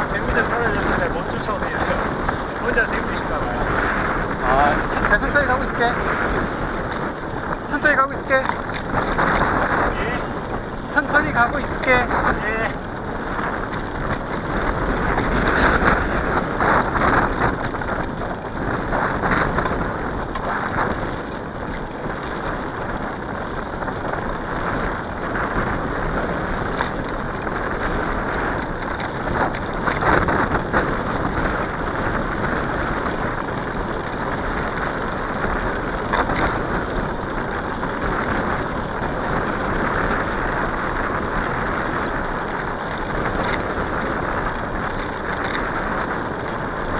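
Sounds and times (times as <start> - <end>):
bicycle tyre noise: 0.0 - 46.9
faint clicks: 0.0 - 46.9
wind on microphone: 0.0 - 46.9.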